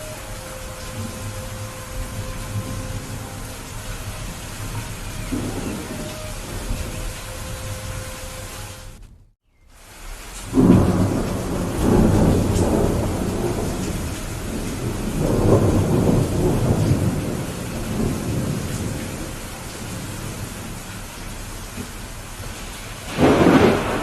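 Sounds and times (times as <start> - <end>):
rolling thunder: 0.0 - 9.2, 10.4 - 24.0
steady rain: 0.0 - 24.0.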